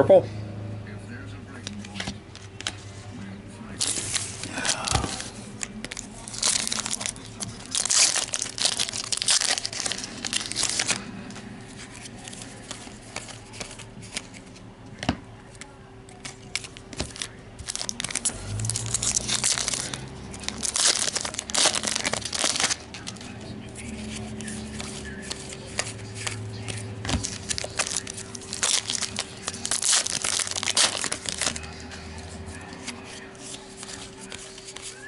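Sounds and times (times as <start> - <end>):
foil wrapper crinkling and tearing: 3.7 - 14.5, 16.1 - 35.0.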